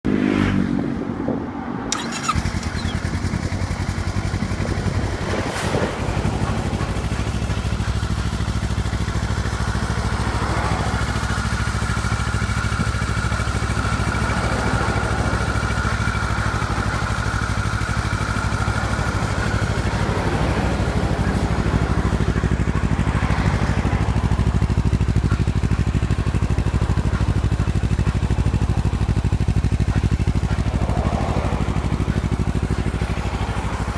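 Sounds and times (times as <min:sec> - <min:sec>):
motorcycle engine starting and idling: 0:01.8 - 0:33.9.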